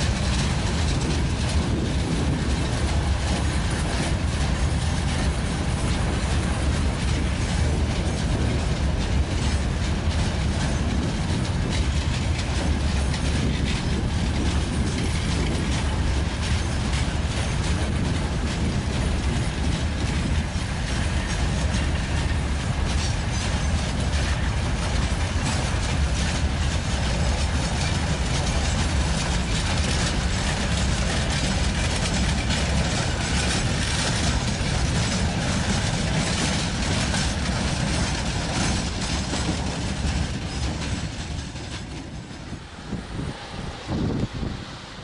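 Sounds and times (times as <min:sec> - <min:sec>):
freight train rumbling past: 0:00.0 - 0:45.0
wheels clicking over rail joints: 0:00.0 - 0:45.0.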